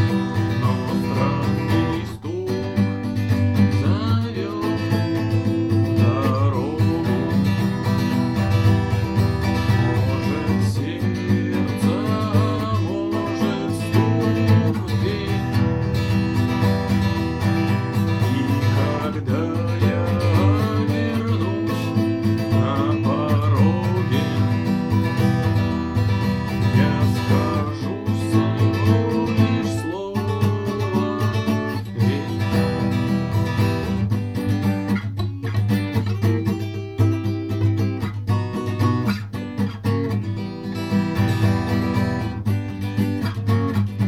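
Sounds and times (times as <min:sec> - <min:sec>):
guitar chords: 0:00.0 - 0:44.0
sliding guitar melody: 0:00.0 - 0:44.0.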